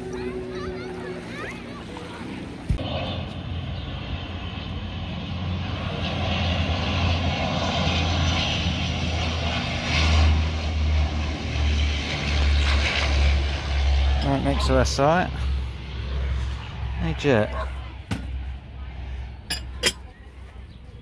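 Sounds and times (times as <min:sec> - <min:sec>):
turboprop airliner flying overhead: 0:00.0 - 0:21.0.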